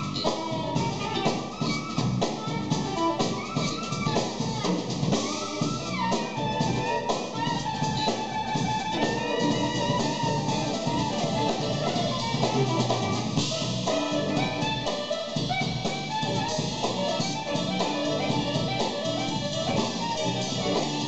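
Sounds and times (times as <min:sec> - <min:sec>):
jazz fusion band playing: 0:00.0 - 0:21.0
saxophone: 0:00.0 - 0:21.0.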